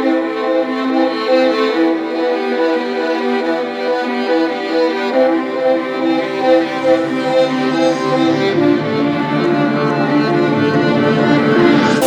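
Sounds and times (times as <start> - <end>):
violin-like string tune: 0.0 - 12.0.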